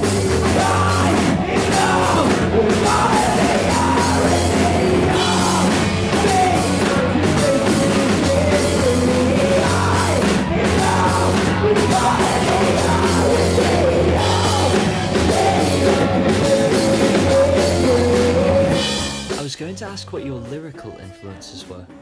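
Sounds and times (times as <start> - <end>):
live grunge rock band: 0.0 - 19.9.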